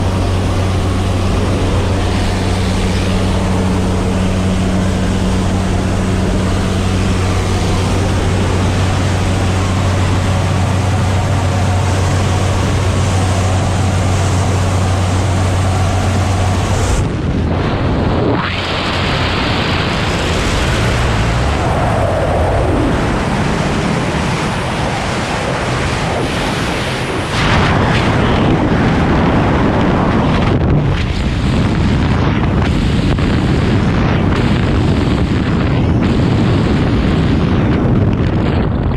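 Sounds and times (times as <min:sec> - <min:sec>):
turboprop engines droning: 0:00.0 - 0:38.9
wind rushing on microphone: 0:00.0 - 0:38.9.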